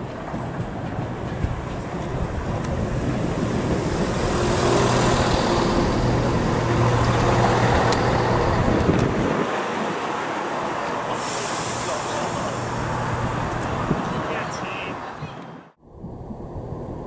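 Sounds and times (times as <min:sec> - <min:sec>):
train rumbling past: 0:00.0 - 0:15.2.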